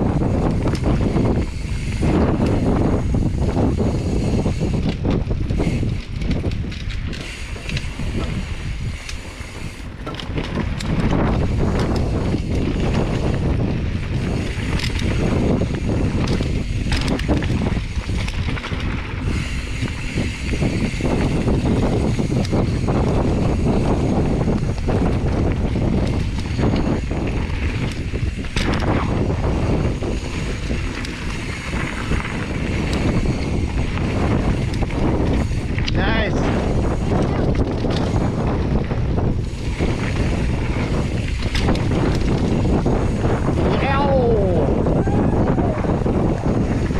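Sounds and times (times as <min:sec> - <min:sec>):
bike rattling over bumps: 0:00.0 - 0:46.9
tyres on packed dirt: 0:00.0 - 0:46.9
wind rumbling on microphone: 0:00.0 - 0:46.9.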